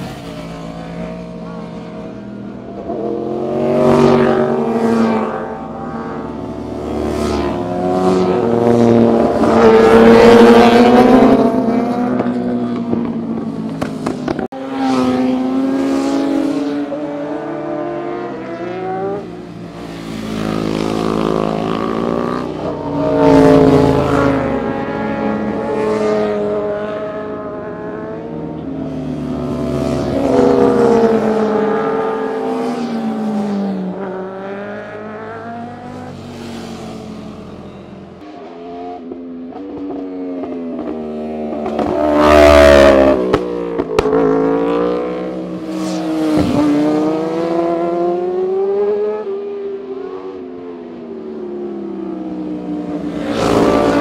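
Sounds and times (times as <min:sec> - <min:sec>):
motorcycle engines passing by: 0:00.0 - 0:54.0.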